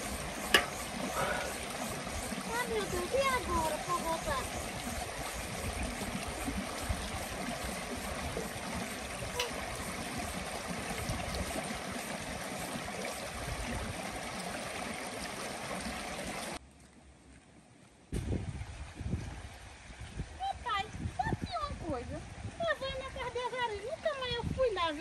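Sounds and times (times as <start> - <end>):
creek trickling over stones: 0.0 - 25.0.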